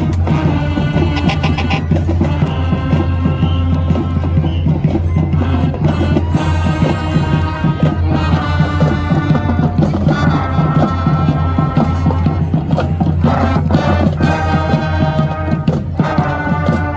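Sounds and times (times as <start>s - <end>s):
music with drums and melody: 0.0s - 16.9s.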